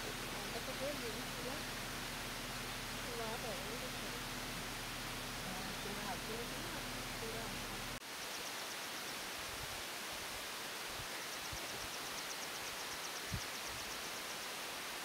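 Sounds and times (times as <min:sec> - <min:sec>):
open air hiss: 0:00.0 - 0:15.0.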